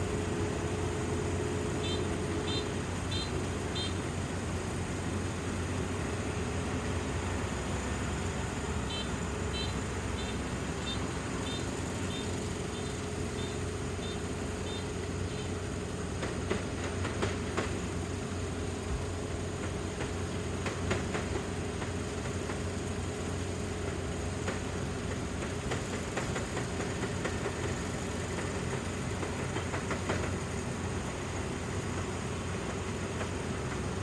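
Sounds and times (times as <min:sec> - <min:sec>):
combine harvester engine hum: 0:00.0 - 0:34.0.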